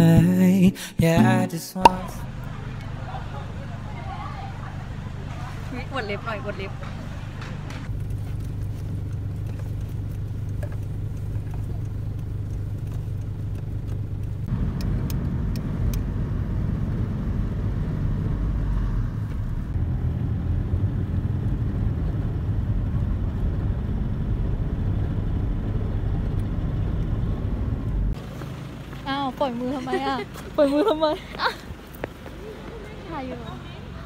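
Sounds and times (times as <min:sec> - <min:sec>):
car engine and road noise: 0:01.8 - 0:34.0.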